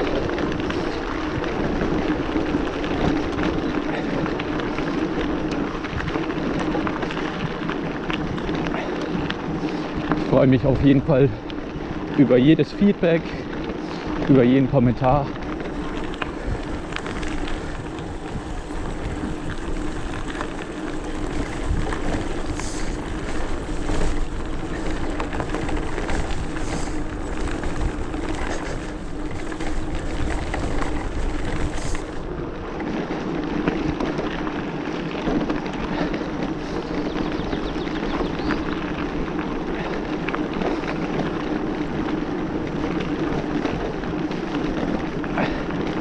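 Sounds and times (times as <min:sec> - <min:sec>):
bike clicks and rattles: 0:00.0 - 0:46.0
bike tyres rolling: 0:00.0 - 0:46.0.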